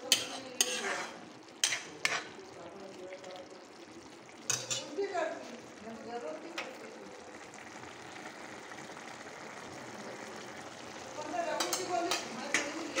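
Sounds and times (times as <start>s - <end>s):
curry simmering hiss: 0.0s - 13.0s.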